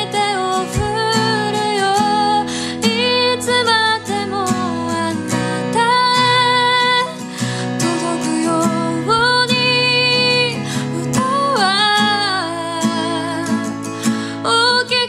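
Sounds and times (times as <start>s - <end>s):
guitar accompaniment: 0.0s - 15.0s
person singing: 0.0s - 15.0s.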